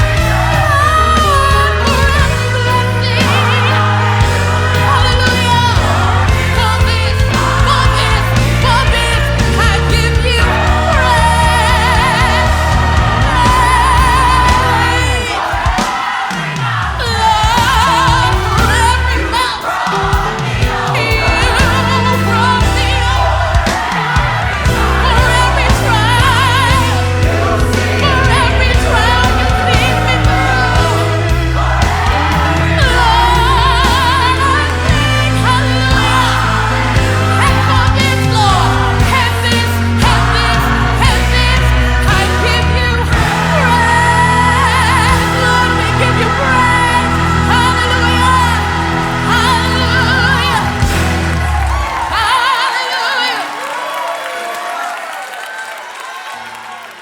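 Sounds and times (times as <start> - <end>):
band with sustained bass: 0.0 - 15.4, 17.0 - 19.6, 20.2 - 52.1
choir singing: 0.0 - 53.9.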